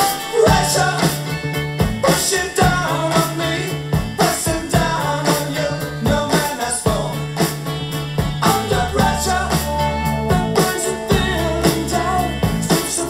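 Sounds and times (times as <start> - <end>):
rock song over speaker: 0.0 - 13.0.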